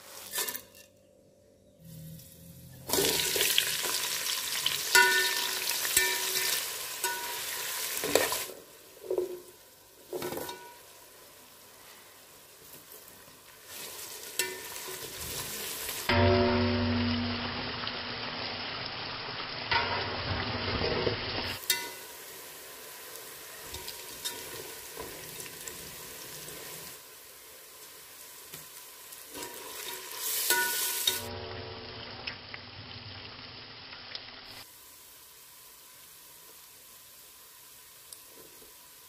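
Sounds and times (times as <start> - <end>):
onions sizzling in oil: 1.9 - 39.0.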